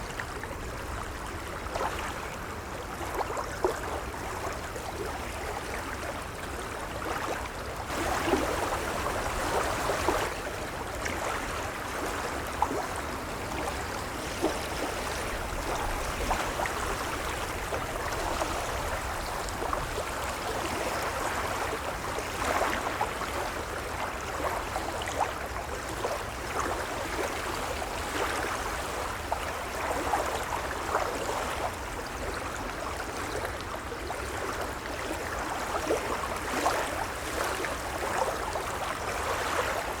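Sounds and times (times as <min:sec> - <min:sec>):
gentle waves lapping: 0:00.0 - 0:40.0.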